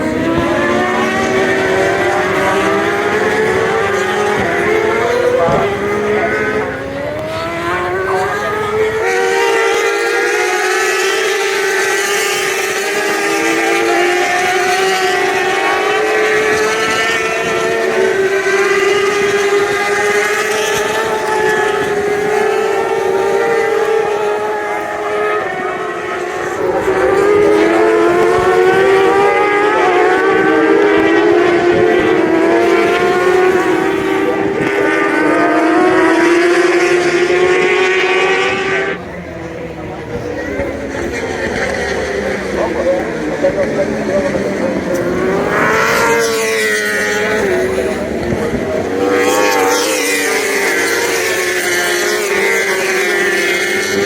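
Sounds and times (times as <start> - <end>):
racing motorcycles at high revs: 0.0 - 54.0.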